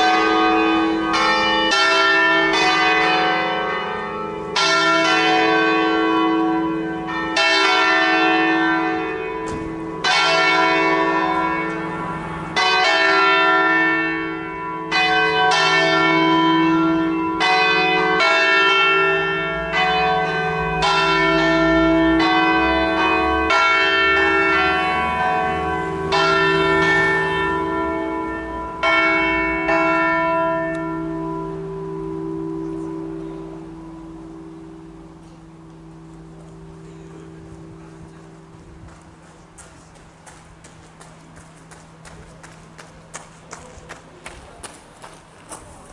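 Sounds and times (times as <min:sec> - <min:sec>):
church bells ringing: 0:00.0 - 0:45.3.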